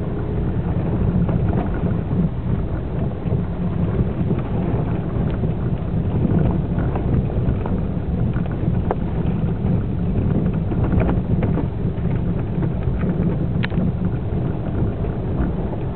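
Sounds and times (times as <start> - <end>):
tyres rumbling on dirt trail: 0.0 - 15.9
small clicks and rattles: 1.2 - 15.9.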